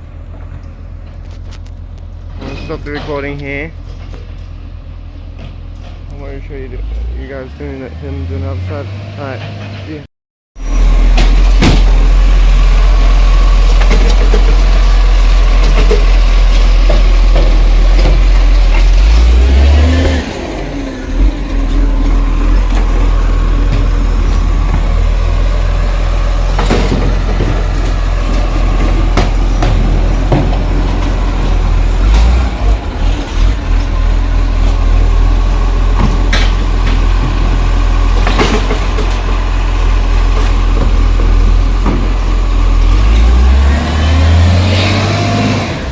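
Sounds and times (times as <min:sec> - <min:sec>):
garbage truck engine rumble: 0:00.0 - 0:45.9.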